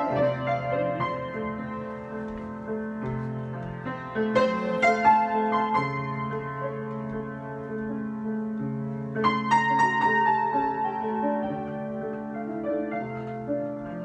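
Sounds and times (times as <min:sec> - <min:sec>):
solo piano improvising: 0:00.0 - 0:14.0.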